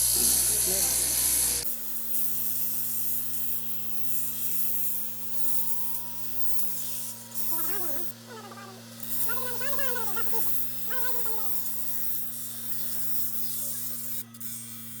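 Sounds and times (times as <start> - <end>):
buzzing power tool: 0.0 - 15.0.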